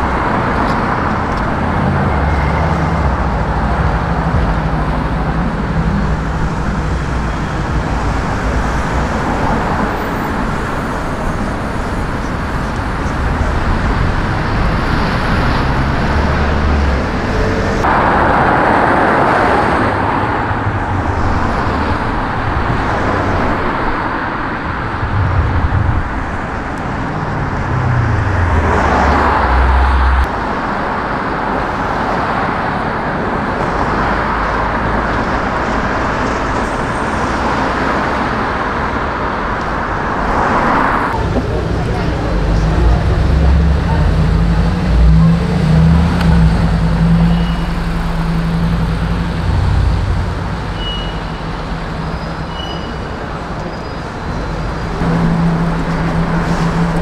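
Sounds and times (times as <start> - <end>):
loud vehicle passing: 0.0 - 30.8, 39.9 - 52.4, 53.1 - 57.0
road noise: 0.0 - 57.0
vehicles driving past: 0.0 - 57.0.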